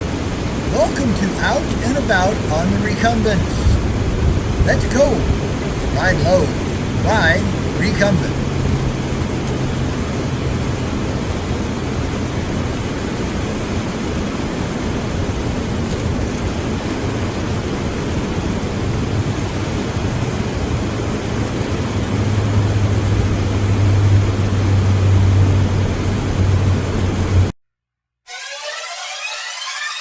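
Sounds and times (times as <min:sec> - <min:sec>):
low hum: 0:00.0 - 0:27.5
wind rushing on microphone: 0:00.0 - 0:27.5.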